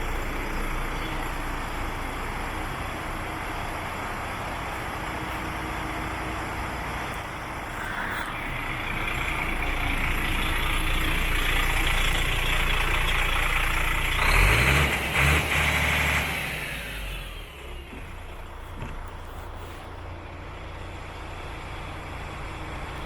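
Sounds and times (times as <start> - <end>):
diesel truck engine revving: 0.0 - 19.2.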